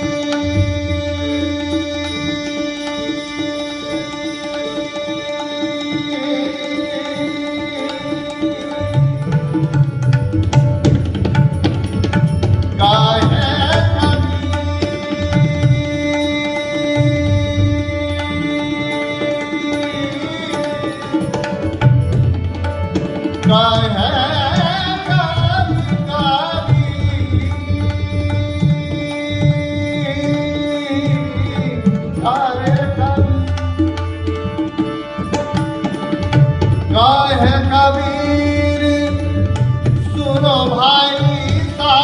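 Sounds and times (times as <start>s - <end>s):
tabla rhythm: 0.0s - 42.0s.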